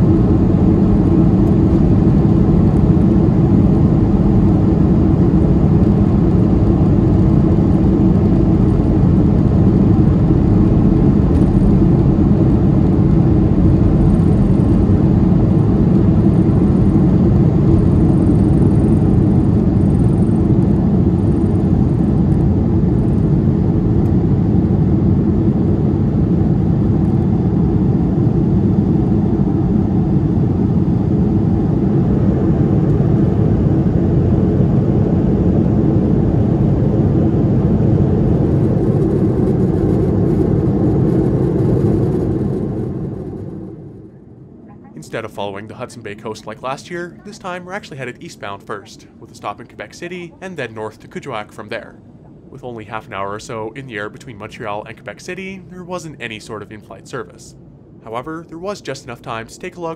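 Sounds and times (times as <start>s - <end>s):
jet engine noise in cabin: 0.0s - 59.9s.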